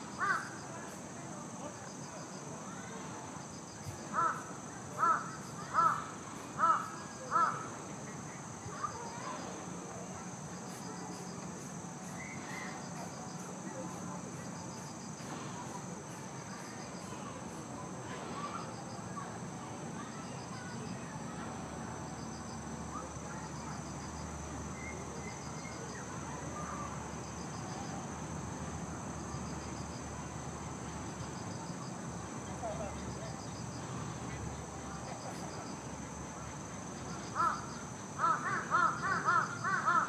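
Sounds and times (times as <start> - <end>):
insect pulsed chirp: 0.0 - 40.0
insects droning: 0.0 - 40.0.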